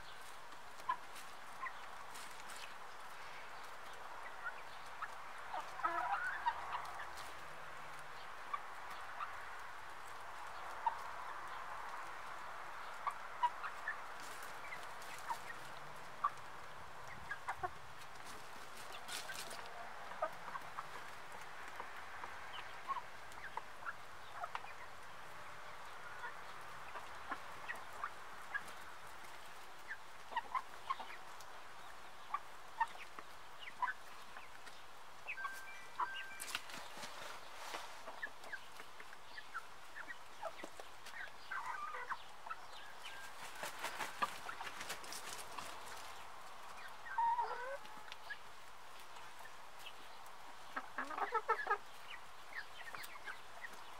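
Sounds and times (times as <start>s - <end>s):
hens clucking: 0.1s - 53.9s.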